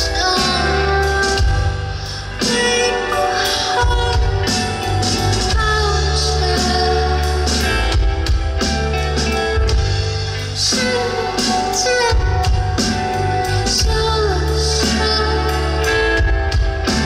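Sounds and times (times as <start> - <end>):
person singing: 0.0 - 9.4, 10.3 - 17.0
drums: 0.0 - 17.0
guitar: 0.0 - 17.0.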